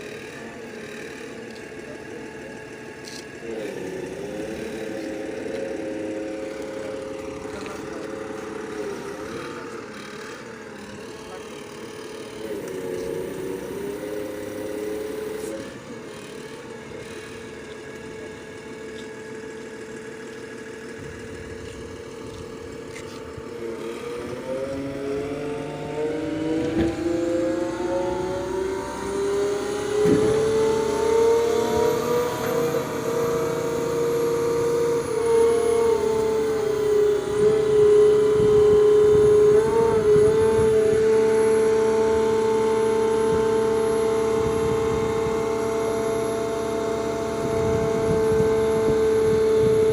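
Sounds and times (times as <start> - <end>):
concrete pump engine running: 0.0 - 49.9.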